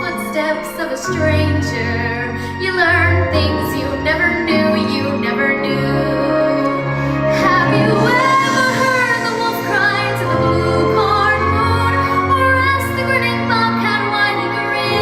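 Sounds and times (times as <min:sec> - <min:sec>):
girl singing: 0:00.0 - 0:15.0
instrumental accompaniment: 0:00.0 - 0:15.0.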